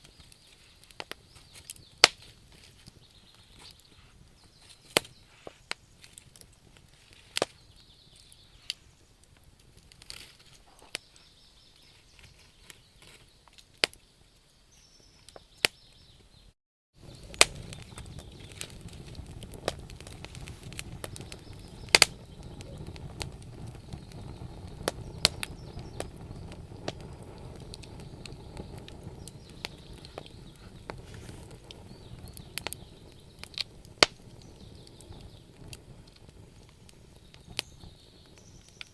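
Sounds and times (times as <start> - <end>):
wood fire pops and snaps: 0.0 - 16.3, 17.0 - 38.9
low noise of burning flames: 0.0 - 16.4, 17.0 - 38.9.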